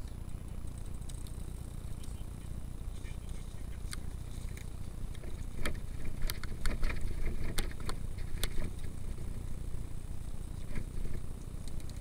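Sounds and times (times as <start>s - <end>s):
bike ride rumble: 0.0s - 12.0s.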